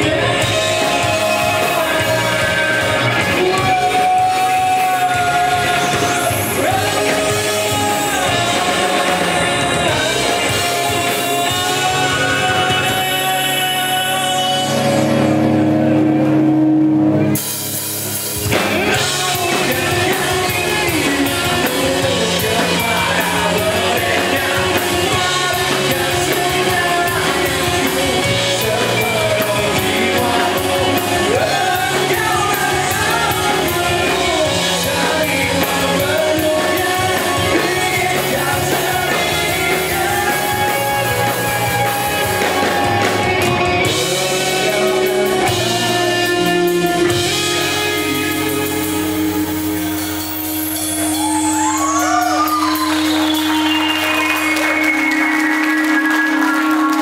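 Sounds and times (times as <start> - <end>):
person singing: 0.0 - 15.8, 18.5 - 57.0
drums: 0.0 - 57.0
rock band playing live: 0.0 - 57.0.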